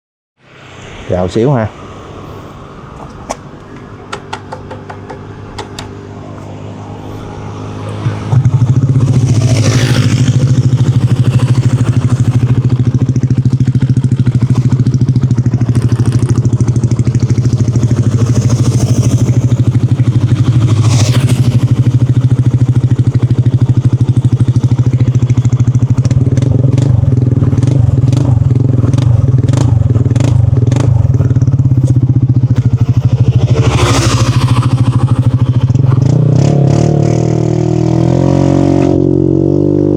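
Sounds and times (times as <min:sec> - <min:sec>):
scooter engine deep exhaust note: 0:05.6 - 0:39.9.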